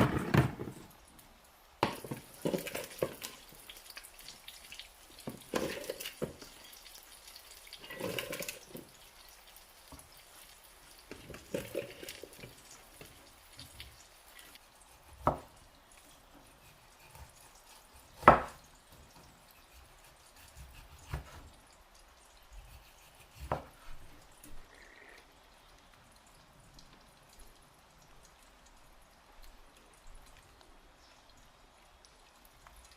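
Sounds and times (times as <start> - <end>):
water dripping and splashing: 0.0 - 32.9.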